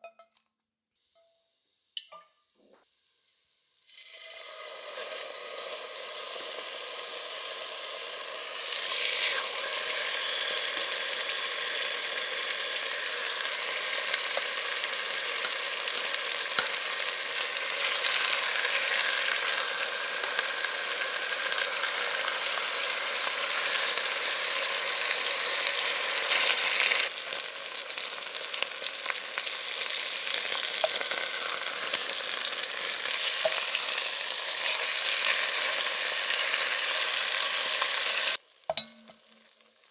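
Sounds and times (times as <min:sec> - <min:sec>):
chicken sizzling in hot oil: 0:01.0 - 0:39.9.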